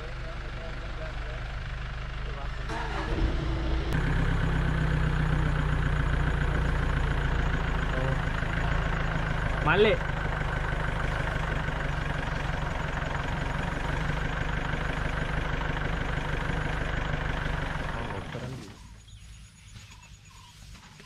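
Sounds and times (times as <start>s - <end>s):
jeep engine running: 0.0s - 19.2s.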